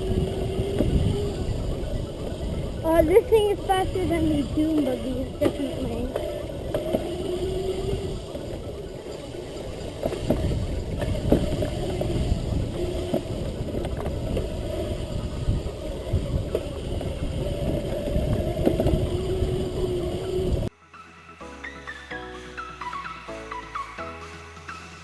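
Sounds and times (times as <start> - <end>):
electric motor whine: 0.0 - 20.7.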